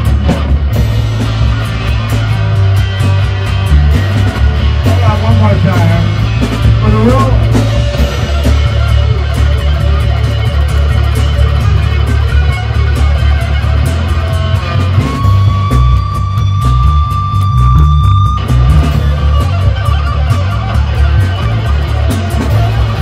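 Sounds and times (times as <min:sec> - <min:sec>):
bass guitar: 0:00.0 - 0:23.0
drums: 0:00.0 - 0:23.0
electric guitar solo: 0:00.0 - 0:23.0.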